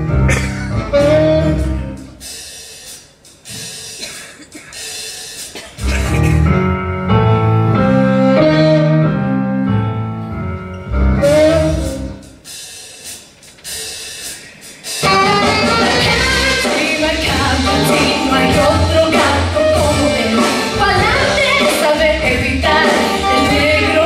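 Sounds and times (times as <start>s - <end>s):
orchestra playing jazzy show music: 0.0s - 3.4s, 5.8s - 24.0s.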